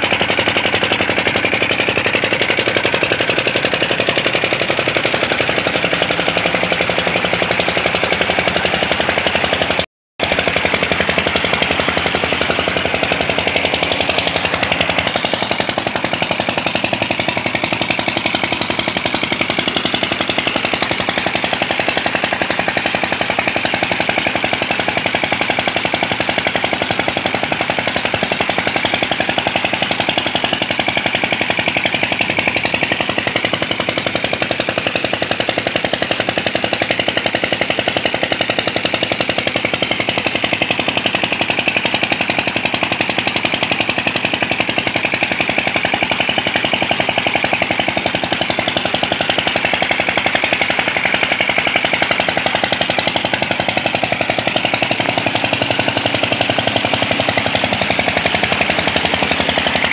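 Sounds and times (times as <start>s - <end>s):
diesel engine knocking: 0.0s - 59.9s.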